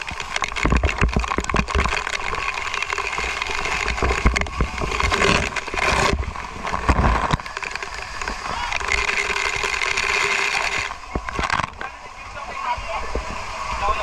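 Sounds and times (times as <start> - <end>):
water splashing and spraying: 0.0 - 14.0.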